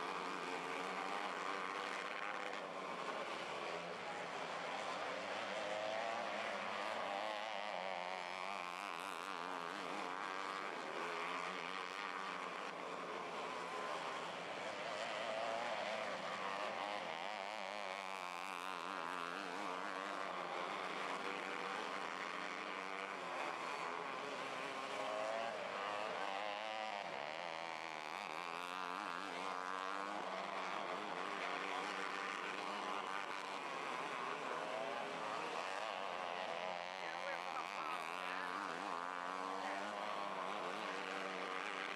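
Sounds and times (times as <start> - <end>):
racing car engines: 0.0 - 41.9.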